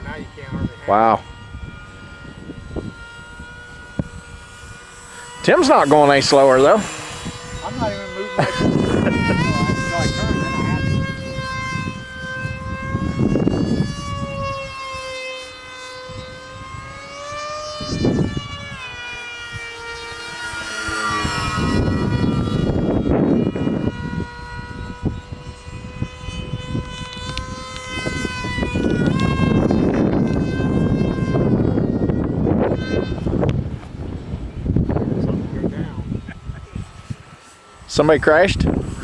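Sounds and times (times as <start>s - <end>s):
model airplane motor whining: 0.0s - 39.0s
wind buffeting microphone: 0.0s - 39.0s.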